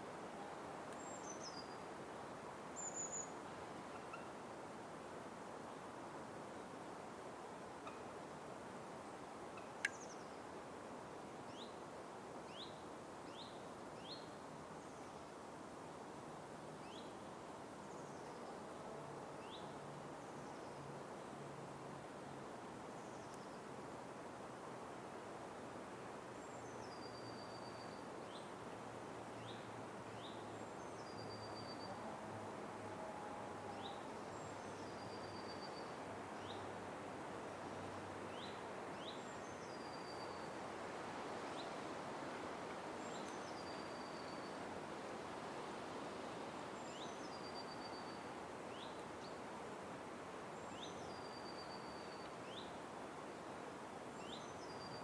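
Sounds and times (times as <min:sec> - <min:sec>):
faint hiss: 0:00.0 - 0:55.0.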